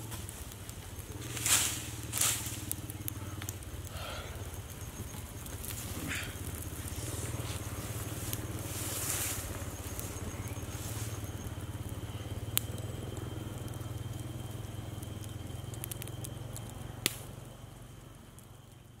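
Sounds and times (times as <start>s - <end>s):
sharp fire pops: 0.0s - 17.7s
campfire crackling: 0.0s - 19.0s
steady low hum: 0.0s - 19.0s.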